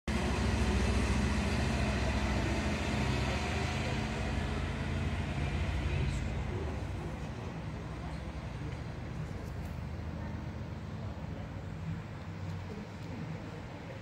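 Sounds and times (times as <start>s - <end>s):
railcar diesel engine hum: 0.1s - 14.0s.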